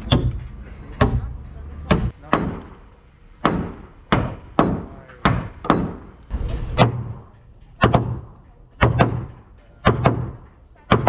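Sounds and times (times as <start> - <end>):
hammers striking wooden planking: 0.0 - 11.0.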